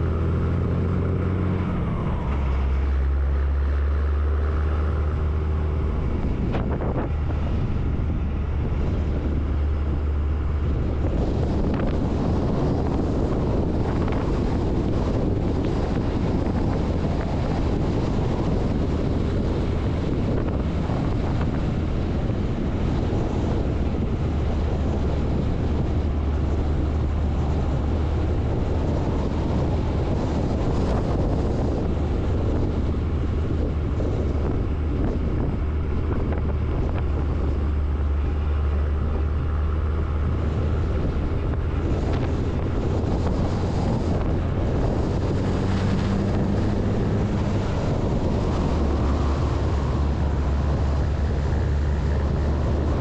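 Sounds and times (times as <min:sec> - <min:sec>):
diesel engine drone: 0:00.0 - 0:53.0
wind rushing over microphone: 0:00.0 - 0:53.0.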